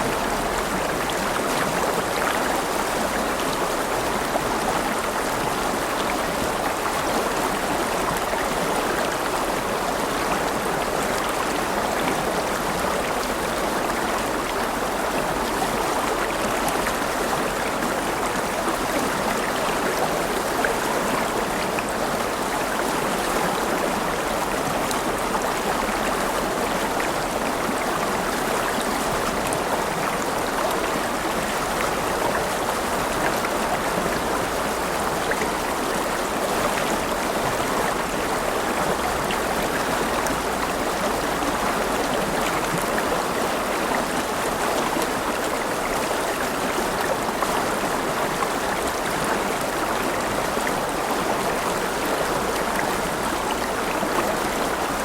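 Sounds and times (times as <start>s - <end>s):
river running over rocks: 0.0s - 55.0s.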